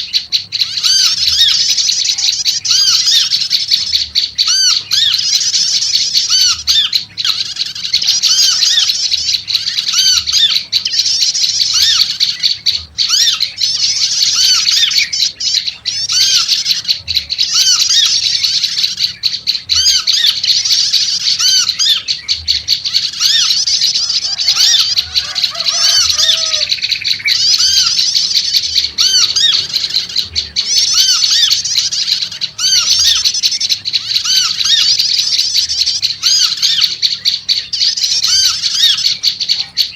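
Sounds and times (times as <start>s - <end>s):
songbird chattering: 0.0s - 39.9s.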